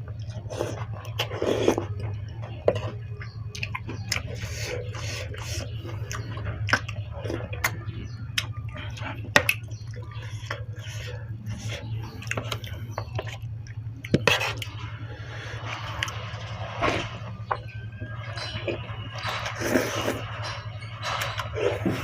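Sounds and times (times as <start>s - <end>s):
chewing and slurping noodles: 0.0s - 22.0s
steady low hum: 0.0s - 22.0s.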